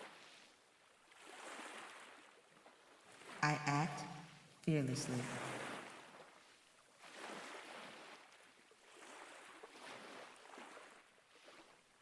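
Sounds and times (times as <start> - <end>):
faint ocean waves: 0.0 - 12.0.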